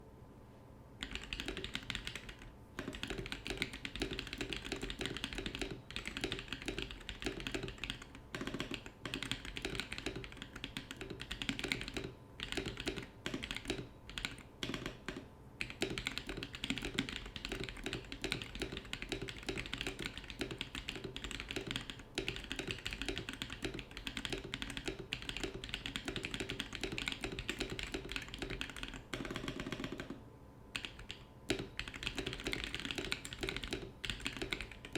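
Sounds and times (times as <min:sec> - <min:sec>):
mechanical keyboard typing: 0:01.0 - 0:30.2, 0:30.8 - 0:34.9.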